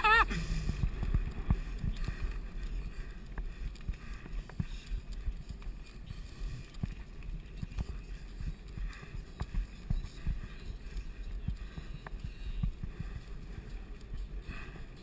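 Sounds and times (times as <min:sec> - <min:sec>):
bike rolling on dirt trail: 0:00.2 - 0:15.0.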